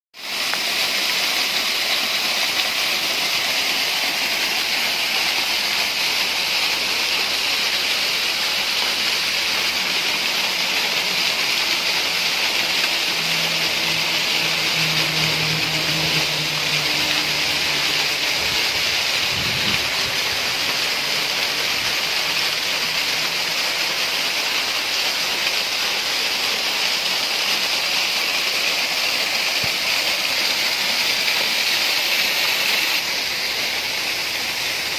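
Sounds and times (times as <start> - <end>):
waterfall splashing on stone: 0.2 - 34.9.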